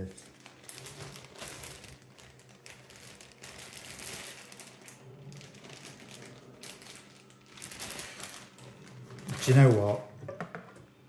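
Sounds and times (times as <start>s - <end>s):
toy packaging rustling: 0.0s - 10.1s.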